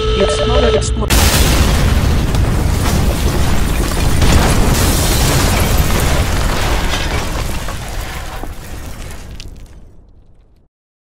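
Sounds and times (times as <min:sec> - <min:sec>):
rumbling explosion with crackling: 0:01.1 - 0:10.7.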